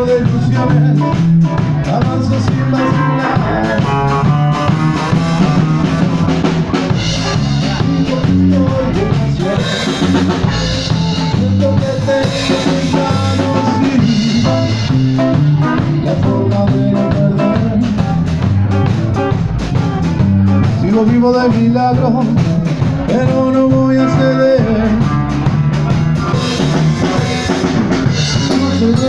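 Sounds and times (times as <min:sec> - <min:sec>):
drum kit beat: 0:00.0 - 0:29.0
electric bass: 0:00.0 - 0:29.0.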